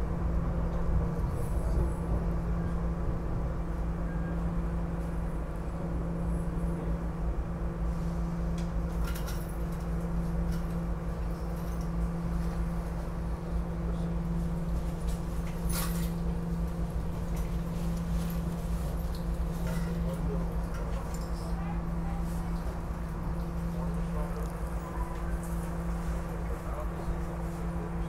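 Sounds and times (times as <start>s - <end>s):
train interior hum and drone: 0.0s - 28.0s.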